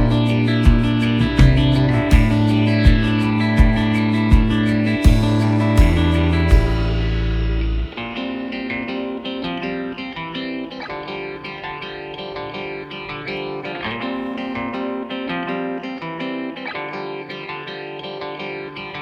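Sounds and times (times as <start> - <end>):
plucked guitar tune: 0.0 - 19.0.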